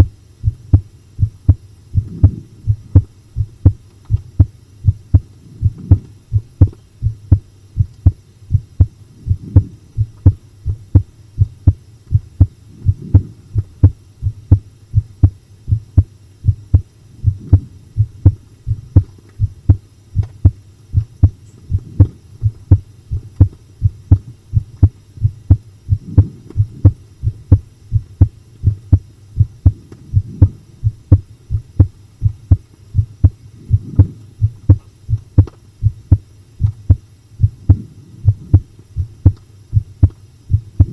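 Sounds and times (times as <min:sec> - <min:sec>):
heart beating: 0:00.0 - 0:40.9
steady low hum: 0:00.0 - 0:40.9.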